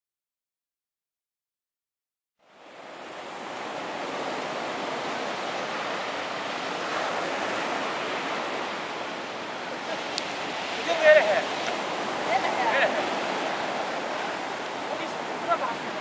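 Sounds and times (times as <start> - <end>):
ocean surf on a beach: 2.4 - 16.0.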